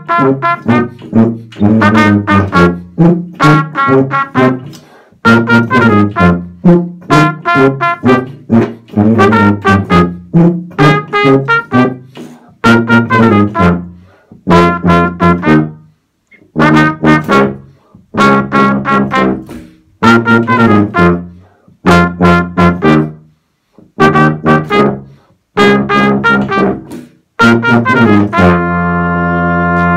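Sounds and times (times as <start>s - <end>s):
tuba and trumpet duet: 0.0s - 29.9s.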